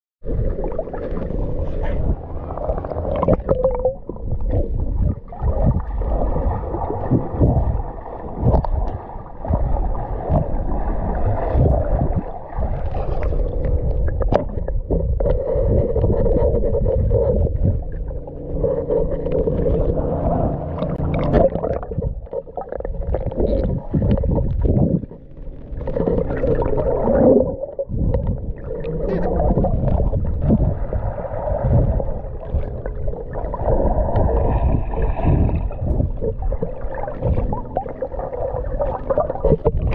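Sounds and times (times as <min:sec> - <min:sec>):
muffled water sloshing underwater: 0:00.2 - 0:39.9.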